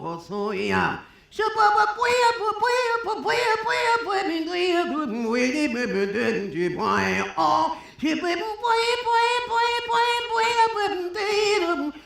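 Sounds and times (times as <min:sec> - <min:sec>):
woman singing without words: 0:00.0 - 0:12.0.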